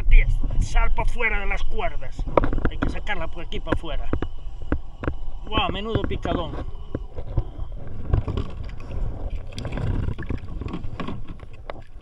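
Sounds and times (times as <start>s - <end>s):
water splashing against kayak: 0.0s - 12.0s
knocks and scrapes on hull: 0.2s - 12.0s.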